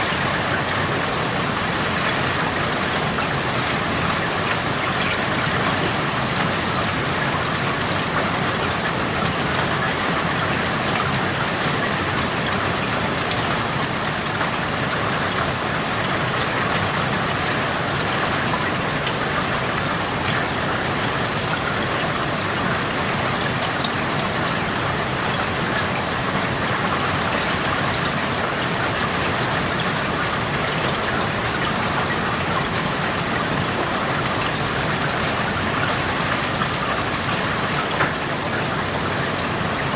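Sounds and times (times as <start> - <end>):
raindrops pattering: 0.0 - 39.9
steady rain hiss: 0.0 - 39.9.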